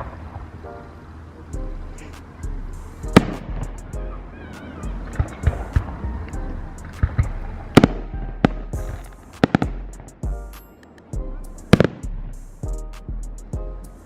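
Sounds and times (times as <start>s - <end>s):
music playing: 0.6s - 14.0s
low rumble: 1.6s - 10.6s, 11.2s - 14.0s.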